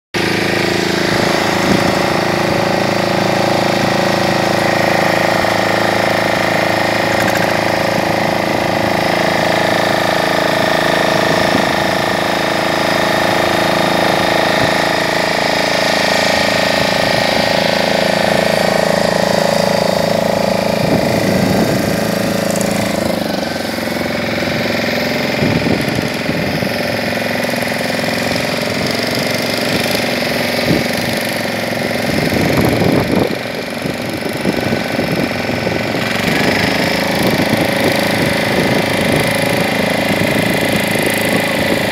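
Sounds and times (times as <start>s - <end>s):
boat motor running: 0.1s - 41.9s.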